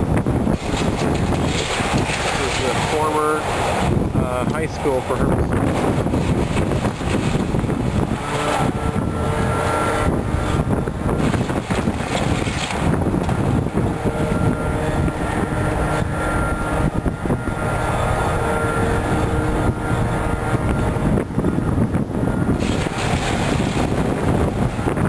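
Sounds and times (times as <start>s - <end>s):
wind buffeting microphone: 0.0s - 25.0s
excavator whine: 2.8s - 25.0s.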